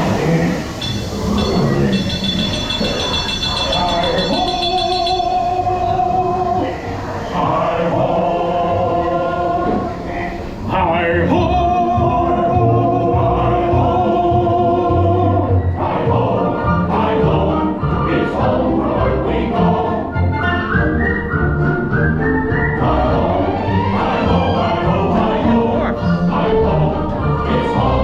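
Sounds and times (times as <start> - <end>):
choir singing long held notes: 0.0 - 28.0.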